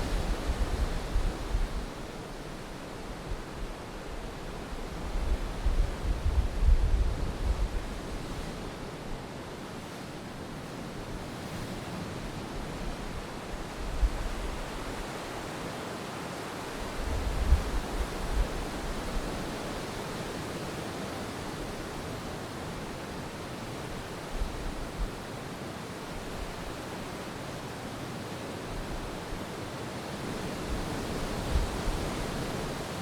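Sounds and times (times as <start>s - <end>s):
low rumbles of surf: 0.0s - 33.0s
ocean waves washing on shore: 0.0s - 33.0s.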